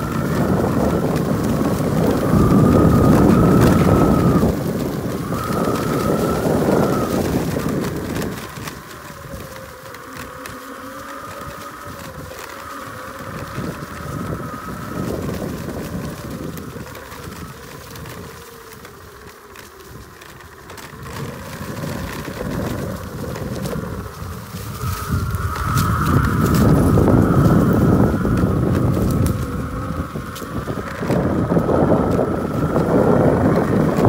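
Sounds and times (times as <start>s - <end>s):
electric skateboard motors whining: 0.0s - 34.0s
tyres rumbling on dirt trail: 0.0s - 34.0s.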